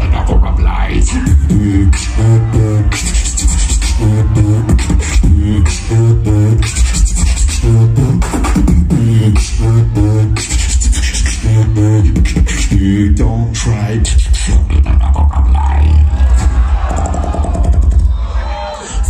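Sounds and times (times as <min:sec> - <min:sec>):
sung-sounding beatbox notes: 0:00.0 - 0:18.2
beatbox snare and hi-hat: 0:00.0 - 0:18.3
beatbox bass notes: 0:00.0 - 0:19.0.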